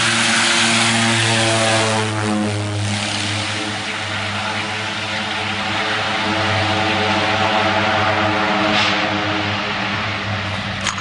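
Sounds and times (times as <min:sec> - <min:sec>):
propeller drone: 0:00.0 - 0:11.0
rushing engine noise: 0:00.0 - 0:11.0.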